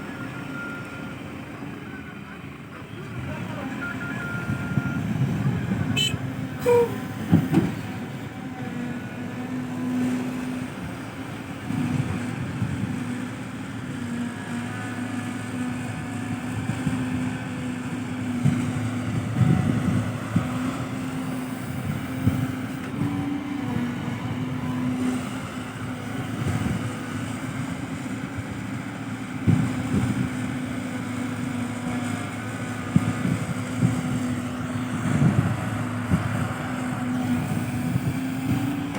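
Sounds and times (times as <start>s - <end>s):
diesel machinery droning: 0.0s - 38.9s.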